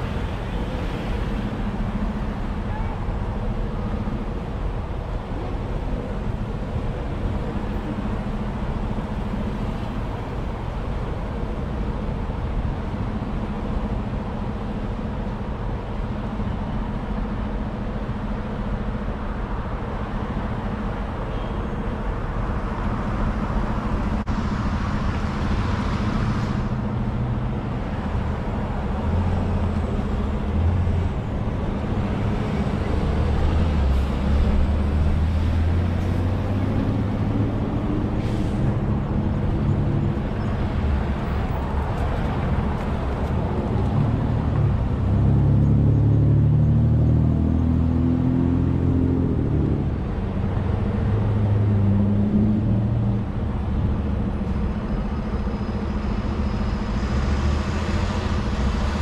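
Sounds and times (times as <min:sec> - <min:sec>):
cars passing: 0:00.0 - 0:17.5, 0:18.3 - 0:59.0
truck rumble: 0:00.0 - 0:59.0.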